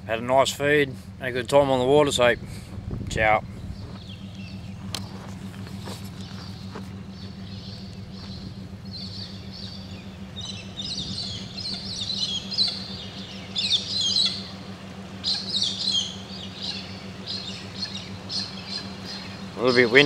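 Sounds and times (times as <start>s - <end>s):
steady low hum: 0.0s - 20.0s
birds chattering calls: 1.7s - 20.0s.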